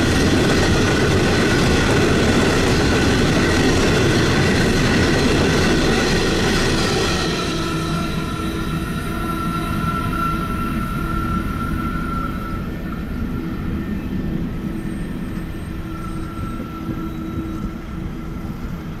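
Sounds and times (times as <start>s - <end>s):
freight train rumble: 0.0s - 19.0s.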